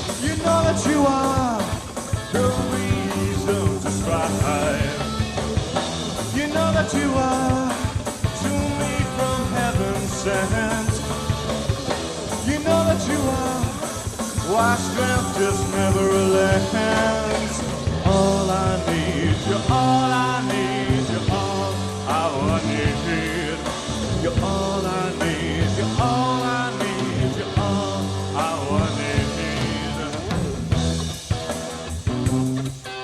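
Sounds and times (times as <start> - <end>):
person singing: 0.0 - 5.4, 6.2 - 11.6, 12.3 - 30.8
rock band playing live: 0.0 - 33.0.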